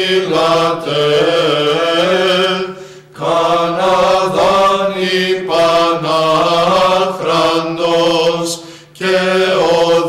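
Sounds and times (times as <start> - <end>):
chanted hymn over drone: 0.0 - 10.0.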